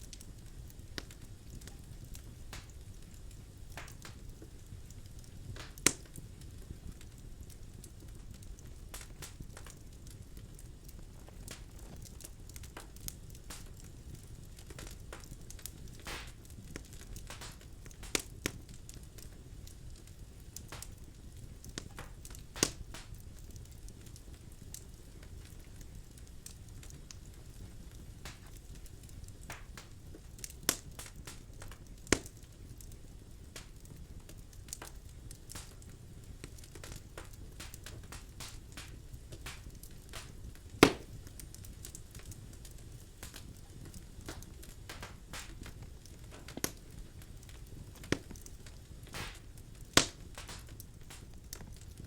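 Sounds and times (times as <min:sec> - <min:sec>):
fire crackles and sharp pops: 0:00.0 - 0:52.0
fire rumbling: 0:00.0 - 0:52.0.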